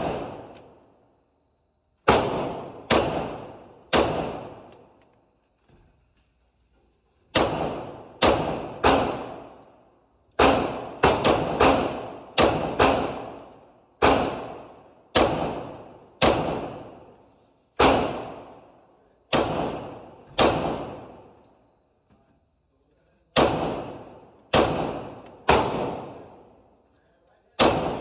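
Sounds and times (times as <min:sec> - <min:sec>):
rifle shots echoing indoors: 0:00.0 - 0:01.0, 0:01.8 - 0:05.0, 0:07.2 - 0:21.6, 0:23.2 - 0:28.0.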